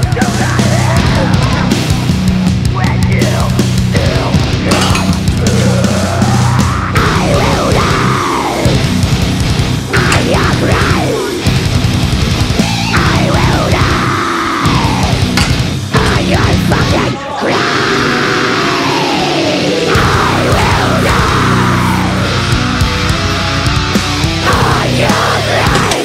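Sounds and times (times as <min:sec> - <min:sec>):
heavy metal music: 0:00.0 - 0:26.0.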